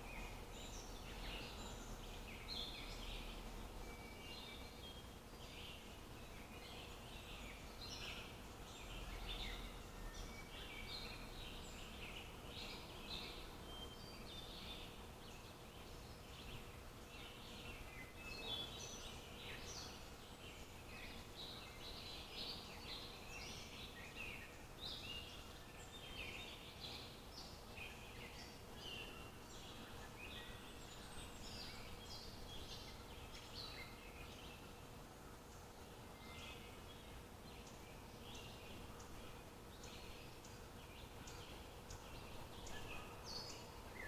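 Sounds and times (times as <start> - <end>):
small birds chirping and trilling: 0.0 - 44.0.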